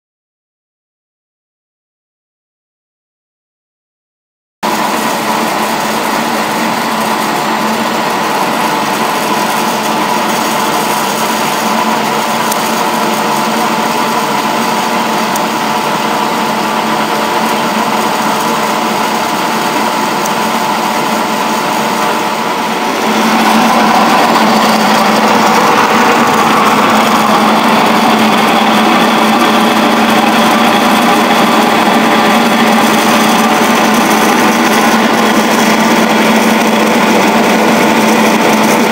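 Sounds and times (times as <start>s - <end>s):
pellet mill humming: 4.6s - 38.9s.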